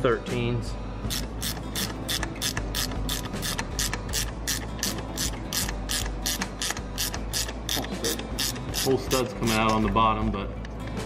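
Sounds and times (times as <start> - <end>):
ratchet wrench clicking: 1.1 - 10.0.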